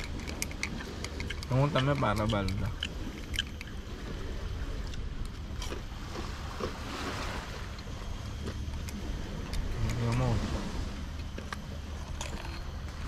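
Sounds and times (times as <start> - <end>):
waves washing on rocky shore: 0.0 - 13.0
wind buffeting microphone: 0.0 - 13.0.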